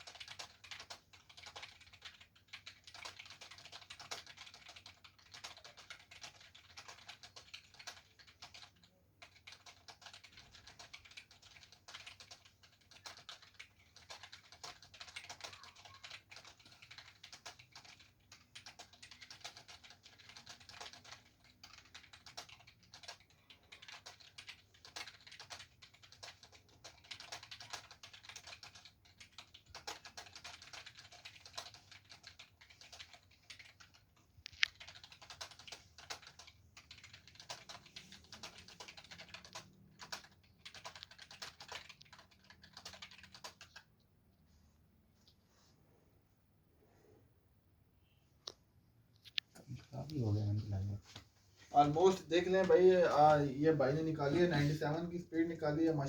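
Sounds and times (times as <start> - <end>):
fast typing on a keyboard: 0.0 - 44.0, 51.1 - 56.0.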